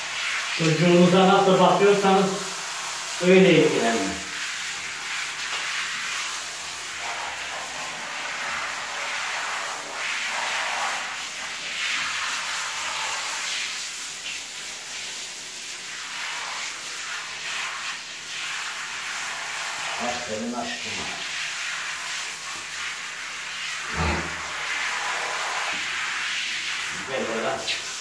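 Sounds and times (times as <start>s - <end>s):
shower head spraying water: 0.0s - 28.0s.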